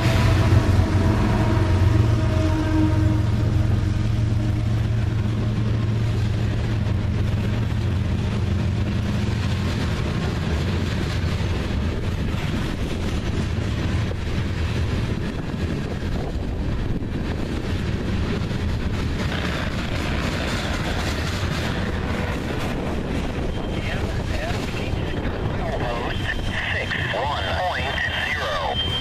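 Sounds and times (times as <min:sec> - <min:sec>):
diesel locomotive engine drone: 0:00.0 - 0:29.0
rumble of rolling train cars: 0:00.0 - 0:29.0.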